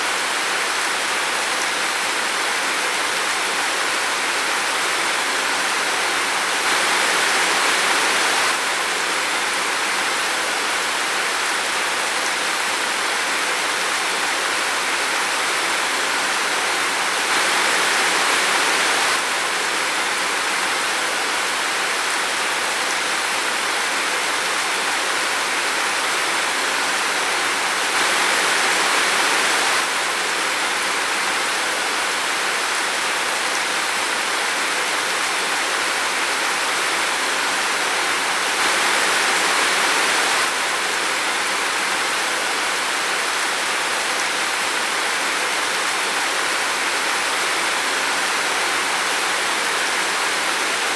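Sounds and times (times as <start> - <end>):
rain falling in a forest: 0.0 - 50.9.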